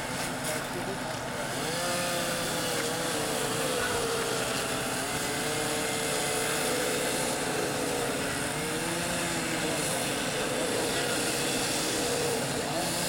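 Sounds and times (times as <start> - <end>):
fire truck engine revving high: 1.5 - 13.0.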